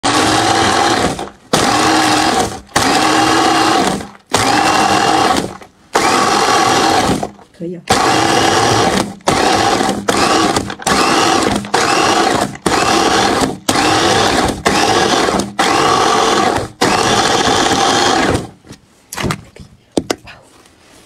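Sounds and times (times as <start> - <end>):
electric chopper crushing ice: 0.0 - 18.6.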